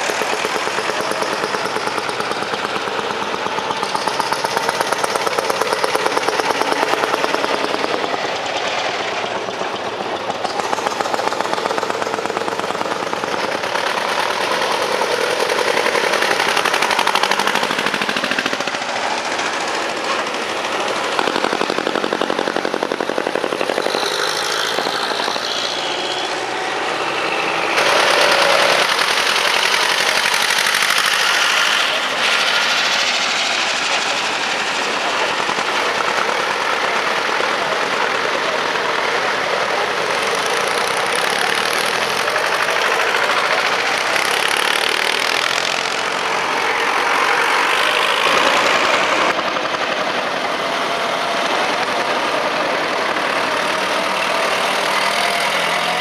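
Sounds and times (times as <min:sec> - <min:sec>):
vehicle engines passing: 0:00.0 - 0:56.0.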